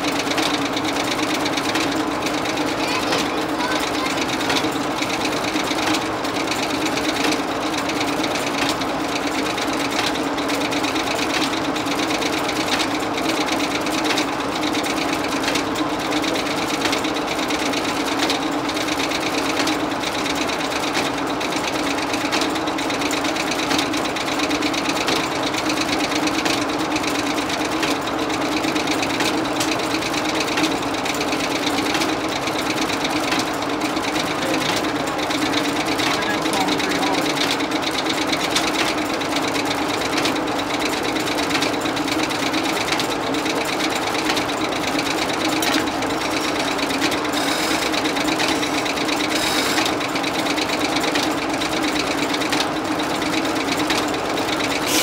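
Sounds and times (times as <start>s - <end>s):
sawmill machinery running idle: 0.0s - 55.0s.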